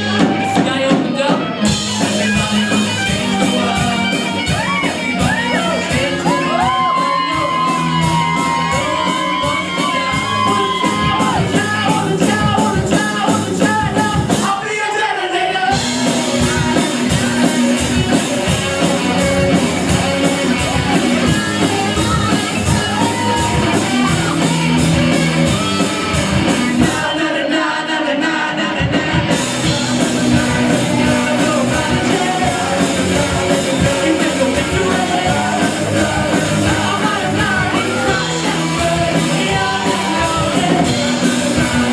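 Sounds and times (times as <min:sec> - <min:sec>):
rock band playing loud: 0:00.0 - 0:41.9
shouted lead vocal: 0:00.0 - 0:41.9.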